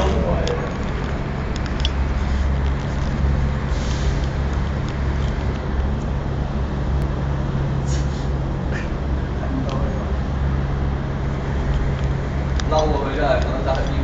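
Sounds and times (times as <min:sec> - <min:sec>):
continuous rushing noise: 0:00.0 - 0:14.0
low engine hum: 0:00.0 - 0:14.0.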